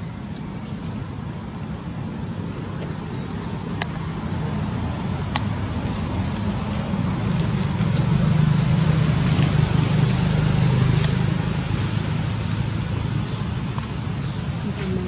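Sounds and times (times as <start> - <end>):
vehicle engine running: 0.9 - 15.0.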